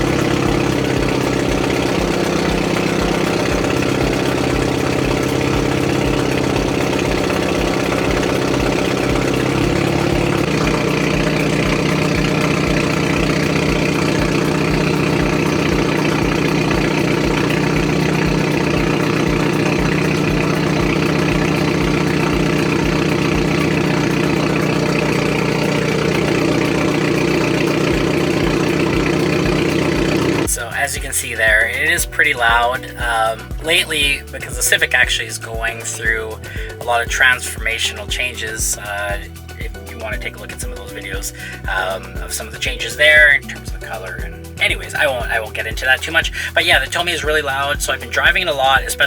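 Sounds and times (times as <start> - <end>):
car engine idling loudly: 0.0 - 49.0.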